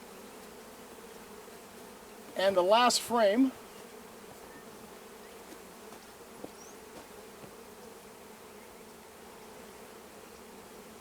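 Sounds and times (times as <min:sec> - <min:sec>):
bees humming around hive: 0:00.0 - 0:11.0.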